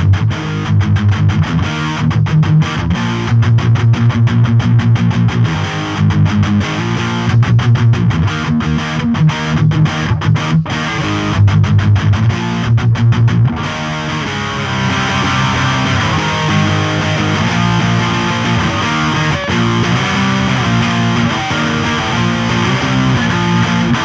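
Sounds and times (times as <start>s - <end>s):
distorted electric guitar riffing: 0.0s - 24.0s.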